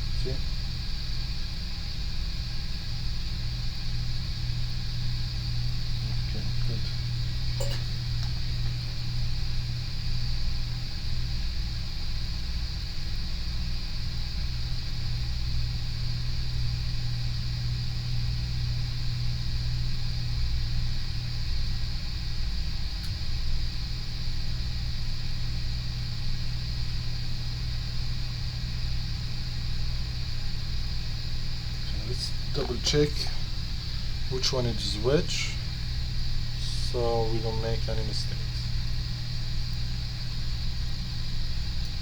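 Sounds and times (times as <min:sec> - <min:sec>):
hot air blower hum: 0:00.0 - 0:42.0.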